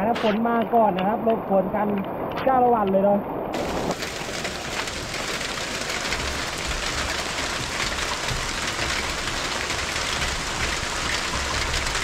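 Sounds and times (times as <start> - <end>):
heavy rain on a tin roof: 0.0 - 12.0.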